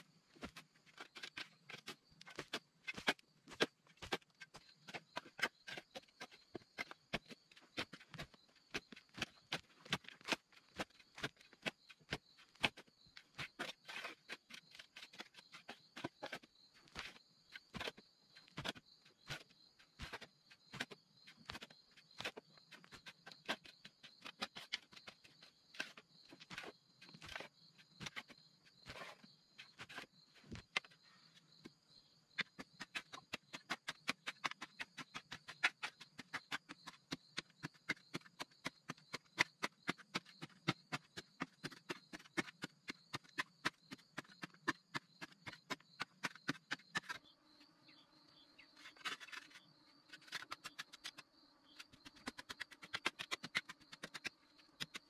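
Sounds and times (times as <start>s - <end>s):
digging tools scraping soil: 0.3s - 31.0s, 32.4s - 47.3s, 48.7s - 55.0s
insects droning: 0.3s - 55.0s.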